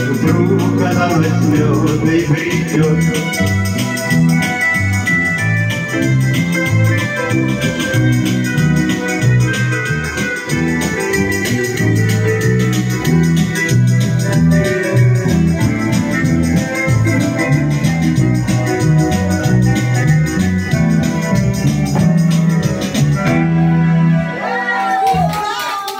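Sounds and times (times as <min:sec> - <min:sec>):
steady beat: 0:00.0 - 0:23.6
stepping bass line: 0:00.0 - 0:24.2
electric organ chords: 0:00.0 - 0:24.5.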